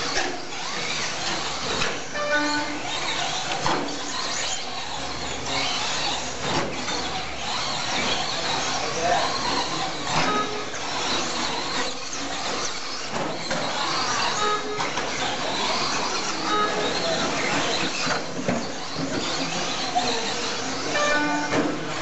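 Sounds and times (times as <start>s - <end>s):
toy cars motors whining: 0.0s - 22.0s.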